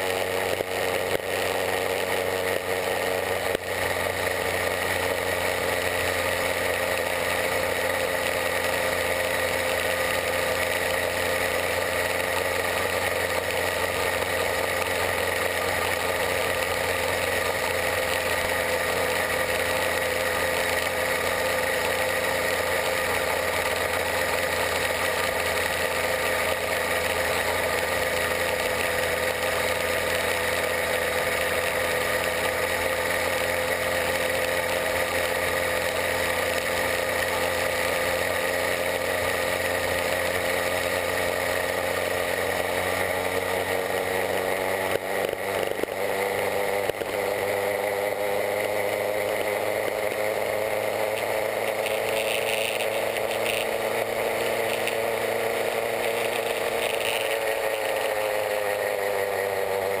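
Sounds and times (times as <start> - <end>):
two-stroke engine running: 0.0 - 60.0.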